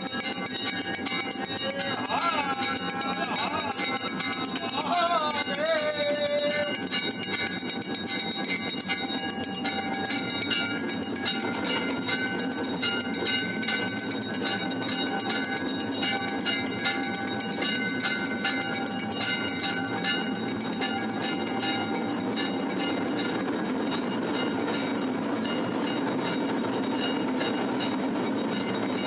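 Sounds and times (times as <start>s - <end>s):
temple bells ringing: 0.0s - 29.0s.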